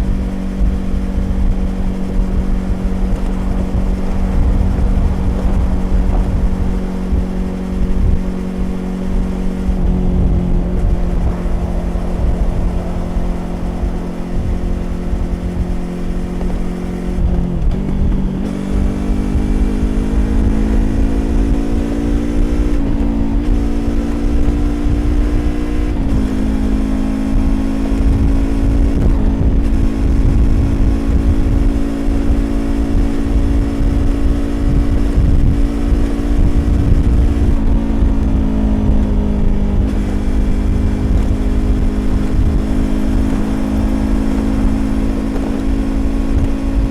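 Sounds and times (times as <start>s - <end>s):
motorcycle engine at speed: 0.0s - 46.9s
wind and road noise: 0.0s - 46.9s.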